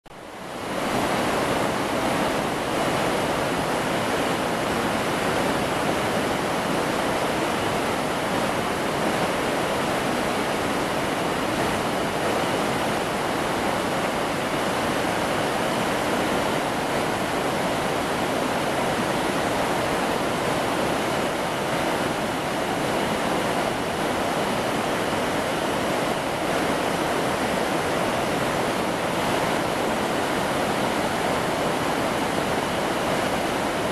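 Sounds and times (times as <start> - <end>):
stream rushing over rocks: 0.2 - 33.9.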